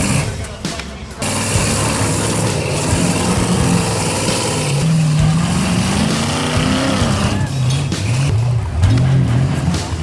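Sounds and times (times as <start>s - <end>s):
truck engine revving: 0.0s - 0.6s, 1.2s - 10.0s.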